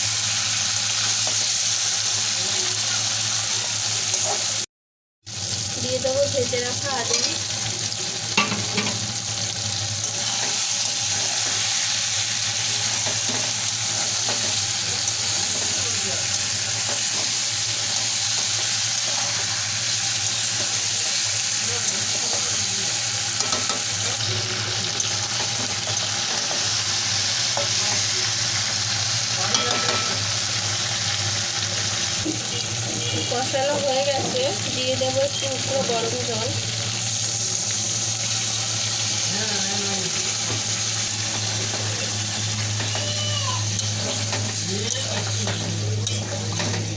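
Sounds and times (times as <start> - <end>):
curry sizzling in a pan: 0.0 - 4.7, 5.3 - 46.9.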